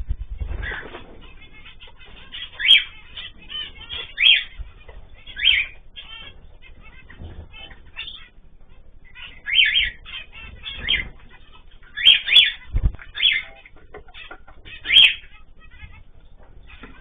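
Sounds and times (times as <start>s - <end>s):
faint bird chirping: 0.0s - 17.0s
shrill bird calls: 0.6s - 17.0s.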